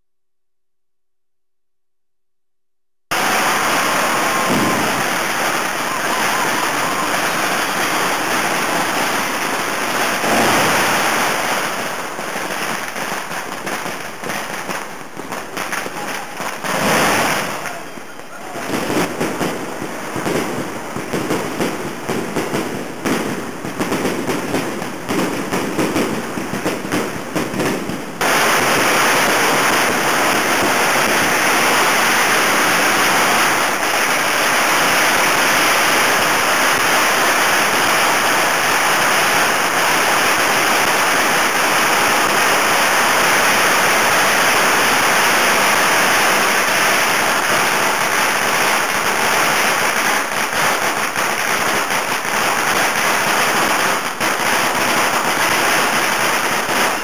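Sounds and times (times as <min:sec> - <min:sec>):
firecrackers crackling: 0:03.1 - 0:57.0.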